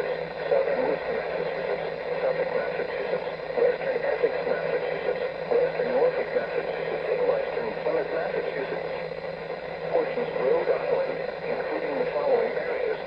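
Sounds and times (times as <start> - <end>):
muffled broadcast voice: 0.0 - 13.0
radio static hiss: 0.0 - 13.0.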